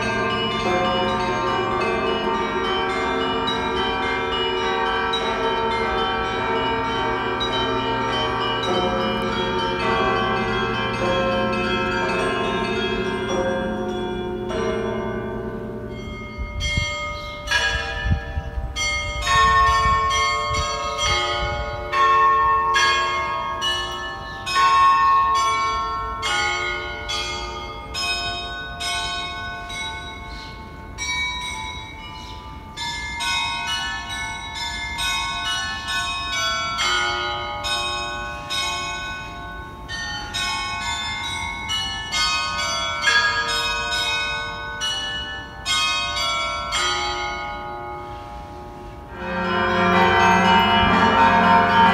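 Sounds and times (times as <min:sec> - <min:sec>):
small high bells chiming rapidly: 0:00.0 - 0:48.2, 0:49.1 - 0:51.9
deep church bells humming: 0:00.0 - 0:51.9.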